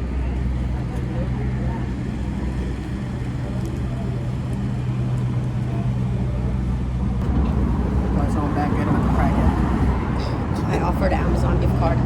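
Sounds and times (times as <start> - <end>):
street traffic noise: 0.0 - 12.0
vehicle engine idling: 0.0 - 12.0.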